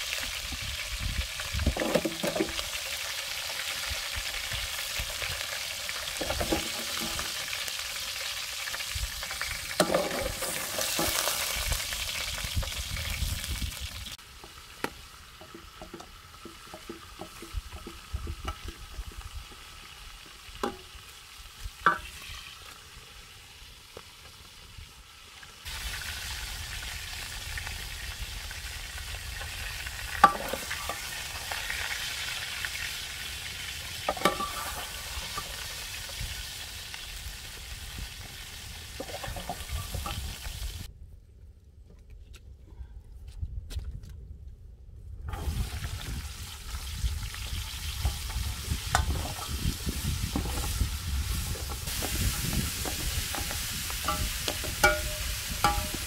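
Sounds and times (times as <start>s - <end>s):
food sizzling in a pot: 0.0s - 40.9s, 45.3s - 56.0s.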